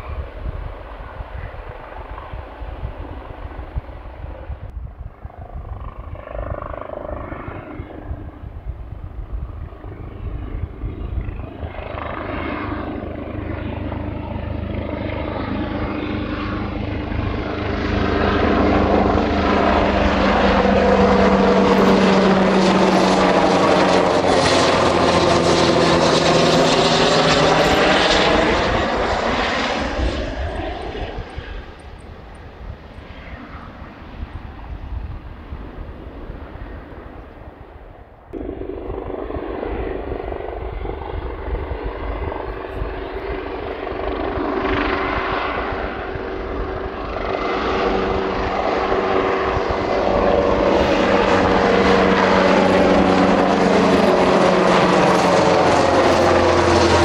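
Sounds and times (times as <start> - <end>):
helicopter flying past: 0.0 - 57.0.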